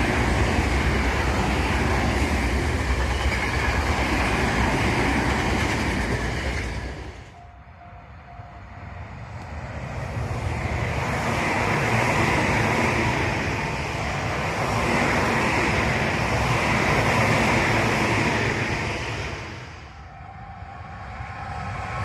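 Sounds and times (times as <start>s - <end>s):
electric train passing: 0.0s - 22.0s.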